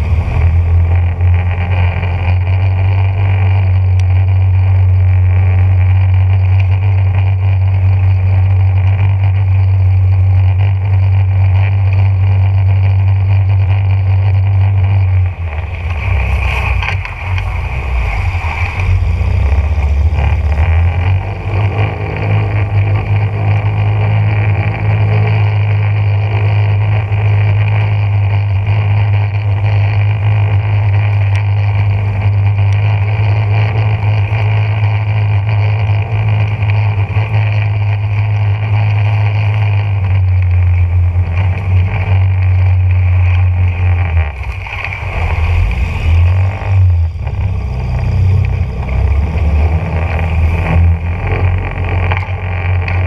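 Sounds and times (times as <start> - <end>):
small boat motor running: 0.0 - 53.0.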